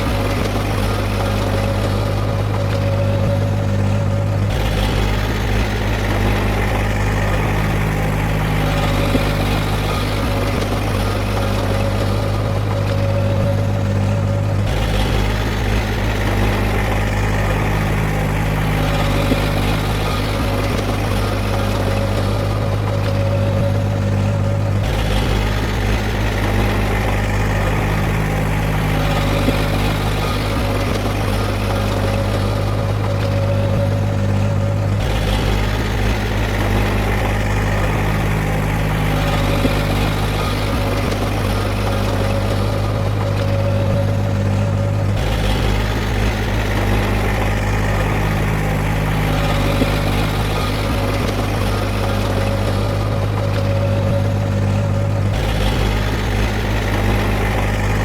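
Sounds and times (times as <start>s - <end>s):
diesel engine of earthmoving machinery: 0.0s - 58.0s.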